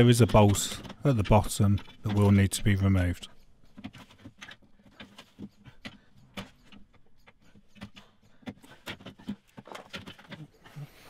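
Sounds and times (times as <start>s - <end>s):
tools clicking and knocking on metal: 0.0s - 11.0s.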